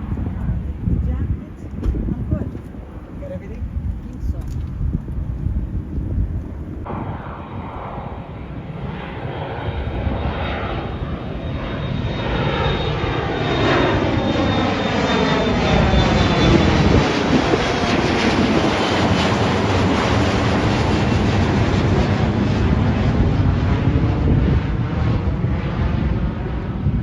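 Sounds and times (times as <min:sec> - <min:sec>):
airliner engine roar: 0:00.0 - 0:27.0.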